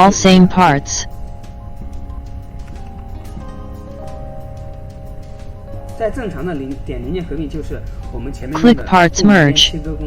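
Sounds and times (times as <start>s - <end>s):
low steady hum: 0.0s - 10.0s
soft background music: 0.0s - 10.0s.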